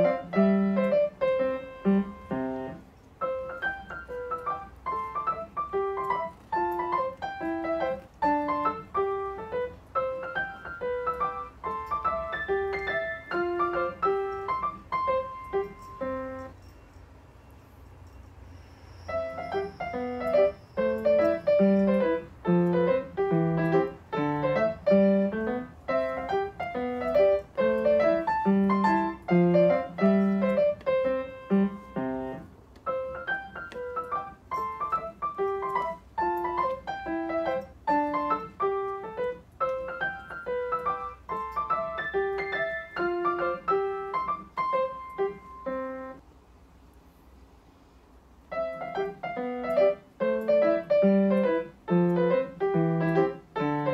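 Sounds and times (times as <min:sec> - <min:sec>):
solo piano music: 0:00.0 - 0:16.9, 0:19.1 - 0:46.3, 0:48.4 - 0:53.9.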